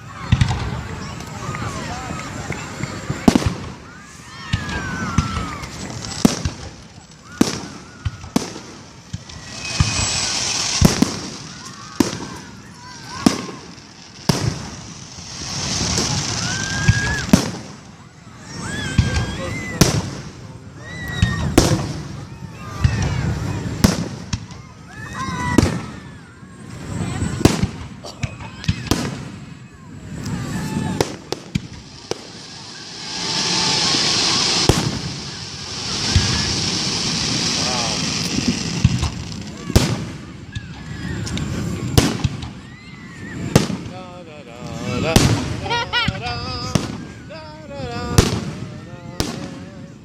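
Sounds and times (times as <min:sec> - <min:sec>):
fireworks bangs: 0:00.0 - 0:50.0
fireworks crackling hiss: 0:00.0 - 0:50.0
fireworks whistling tone: 0:00.0 - 0:50.0.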